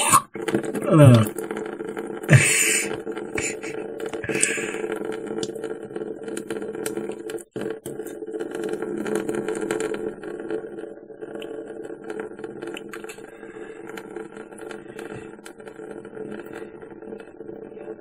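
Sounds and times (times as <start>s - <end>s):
nasal rinse gurgling: 0.0s - 1.5s, 2.2s - 18.0s
steady low hum: 0.0s - 18.0s
small crackles and clicks: 0.3s - 18.0s.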